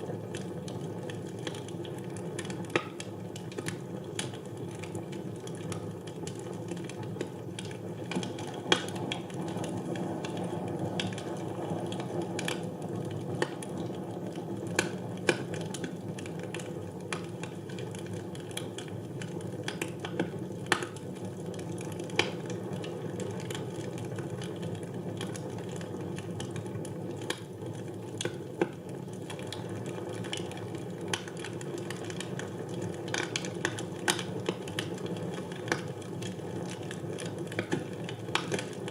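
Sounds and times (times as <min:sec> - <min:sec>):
logs crackling and popping: 0:00.0 - 0:38.9.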